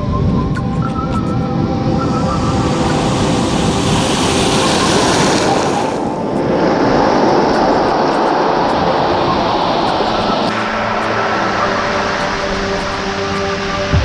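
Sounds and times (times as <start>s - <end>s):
surf breaking on pebble beach: 2.2s - 13.6s.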